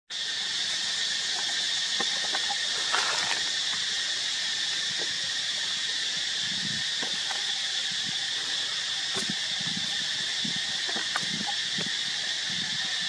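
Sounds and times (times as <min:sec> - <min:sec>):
high-pitched outdoor hiss: 0:00.1 - 0:13.0.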